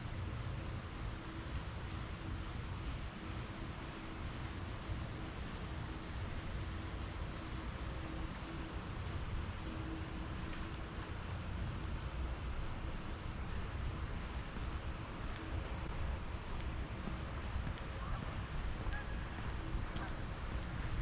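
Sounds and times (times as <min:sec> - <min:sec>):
faint insect chirping: 0:00.0 - 0:20.2
distant traffic hum: 0:00.0 - 0:21.0.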